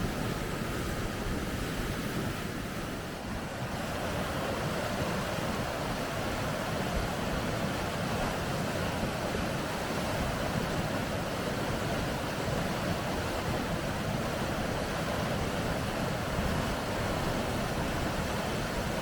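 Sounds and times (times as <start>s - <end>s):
river rapids roaring: 0.0s - 19.0s.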